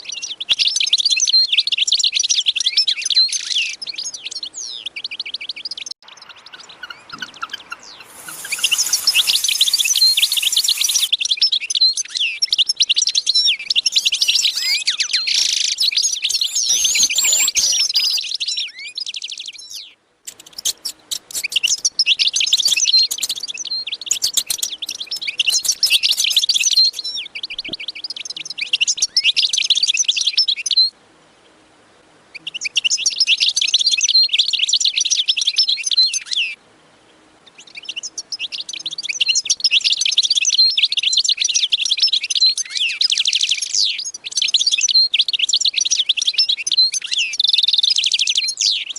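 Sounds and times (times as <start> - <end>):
small birds chirping and twittering: 0.0 - 31.6, 32.3 - 48.9.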